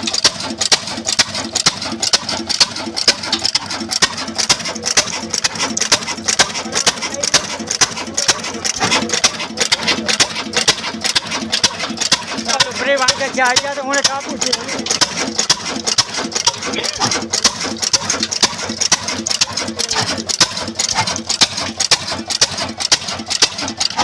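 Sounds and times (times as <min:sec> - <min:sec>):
diesel engine knocking: 0:00.0 - 0:24.0.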